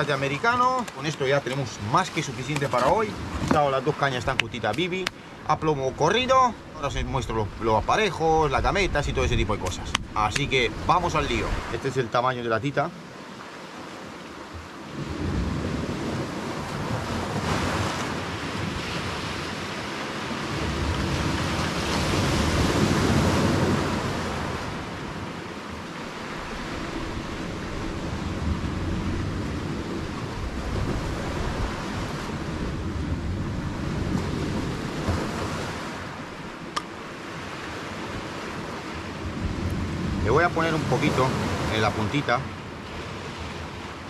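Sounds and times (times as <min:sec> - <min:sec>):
sea waves: 0:00.0 - 0:44.0
wind: 0:00.0 - 0:44.0.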